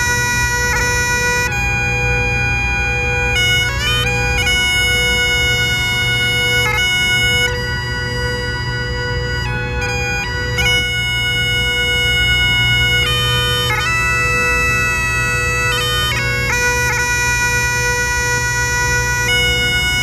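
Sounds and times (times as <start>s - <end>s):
bagpipe playing a tune: 0.0s - 20.0s.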